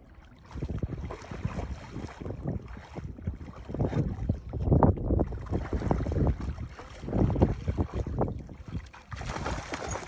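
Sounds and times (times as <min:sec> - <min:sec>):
dogs splashing in shallow water: 0:00.0 - 0:10.0
wind buffeting microphone: 0:00.4 - 0:10.0.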